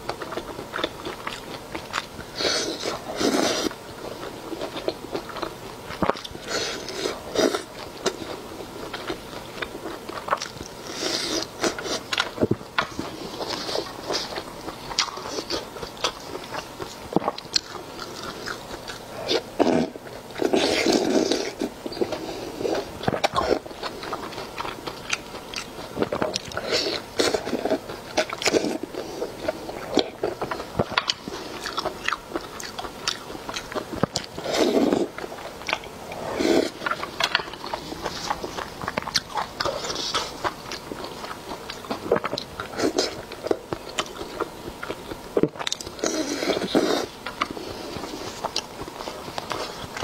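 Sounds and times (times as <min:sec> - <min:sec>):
biting and chewing: 0:00.0 - 0:50.0.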